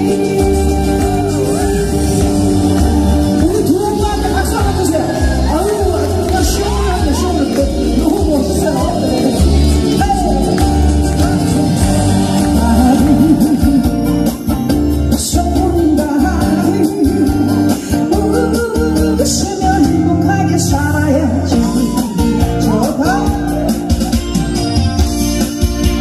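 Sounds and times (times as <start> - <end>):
person singing: 0.0 - 25.0
instrumental backing music with bass: 0.0 - 26.0.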